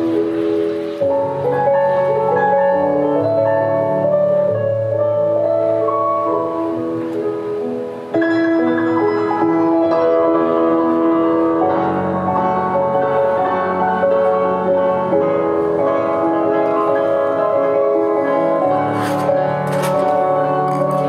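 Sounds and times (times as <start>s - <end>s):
instrumental music over sound system: 0.0s - 21.0s.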